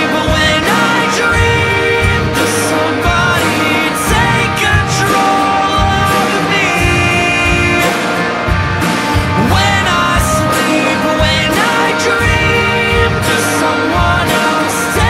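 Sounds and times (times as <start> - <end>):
song with drum beat: 0.0 - 15.0.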